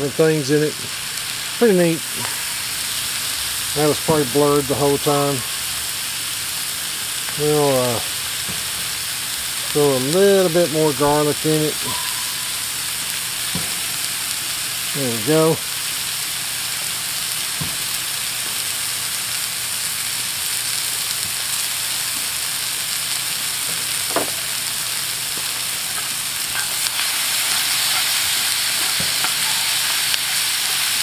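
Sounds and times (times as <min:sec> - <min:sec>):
food sizzling in a skillet: 0:00.0 - 0:31.0.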